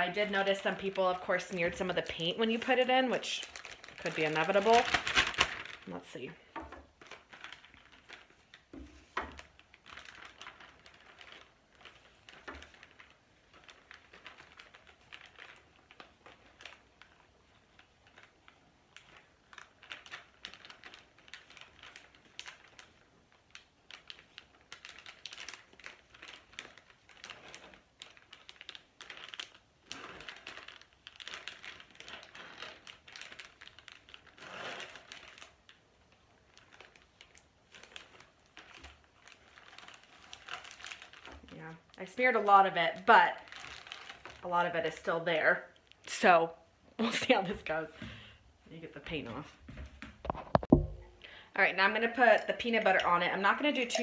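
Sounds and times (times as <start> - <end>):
plastic bag crinkling: 0.0 - 54.0.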